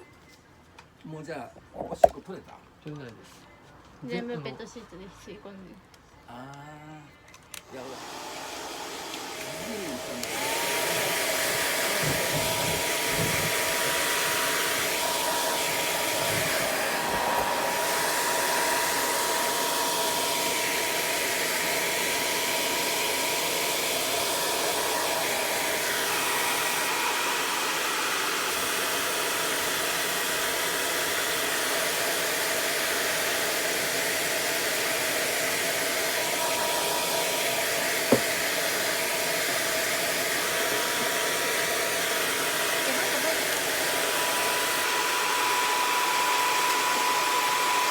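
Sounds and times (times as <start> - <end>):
hair dryer blowing: 7.6 - 47.9.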